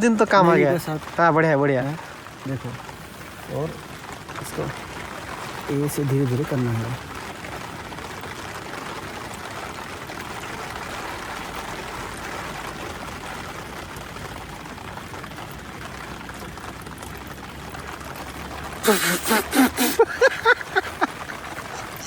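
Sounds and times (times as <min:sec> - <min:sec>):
rain falling on a tent: 0:00.0 - 0:22.0.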